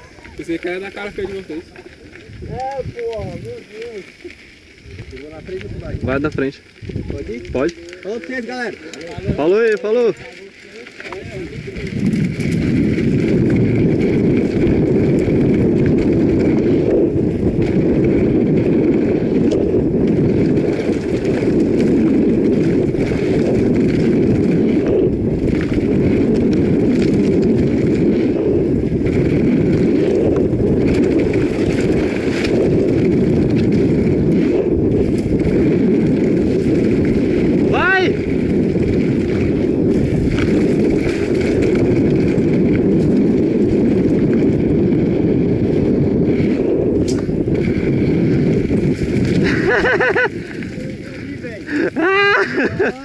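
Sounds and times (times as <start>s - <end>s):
tyres running over dirt: 0.0s - 53.0s
wind rumble on microphone: 0.0s - 53.0s.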